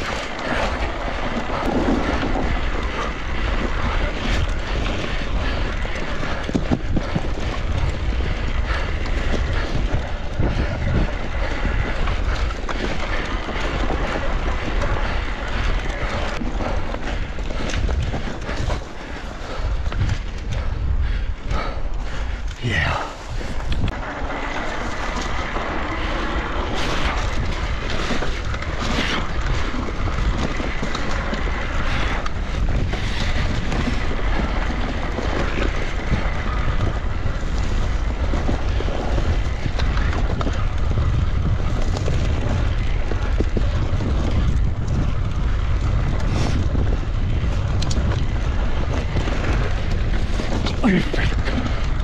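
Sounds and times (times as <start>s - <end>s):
tyre and trail noise: 0.0s - 52.0s
wind buffeting microphone: 0.0s - 52.0s.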